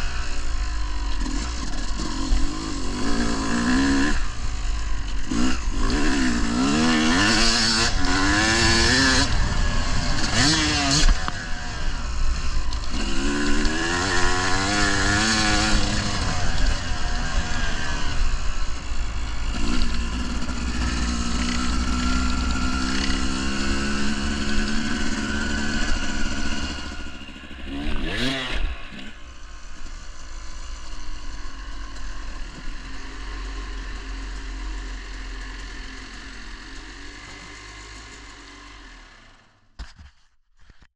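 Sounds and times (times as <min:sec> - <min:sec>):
dirt bike engine revving: 0:00.0 - 0:39.7.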